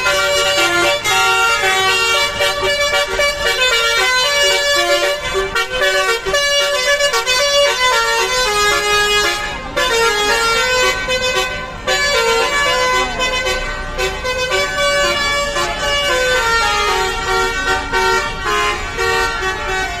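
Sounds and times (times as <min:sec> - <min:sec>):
bus horn playing a melody: 0:00.0 - 0:20.0.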